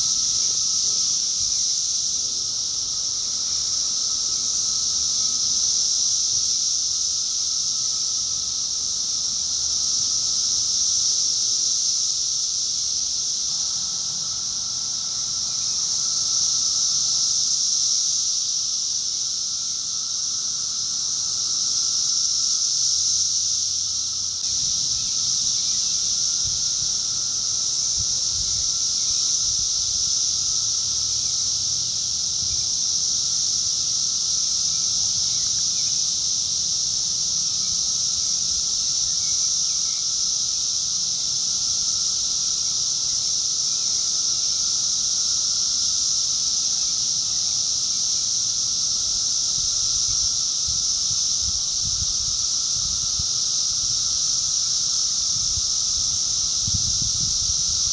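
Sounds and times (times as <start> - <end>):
cicadas buzzing: 0.0 - 57.9.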